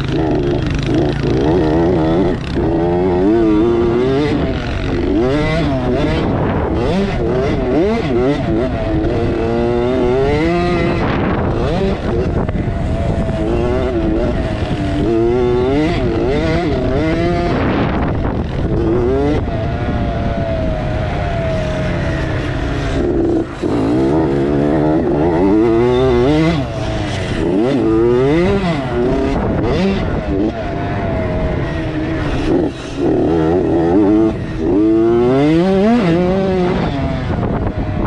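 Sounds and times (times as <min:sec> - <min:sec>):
dirt bike engine revving: 0:00.0 - 0:38.0
distant motorbike engines: 0:00.0 - 0:38.0.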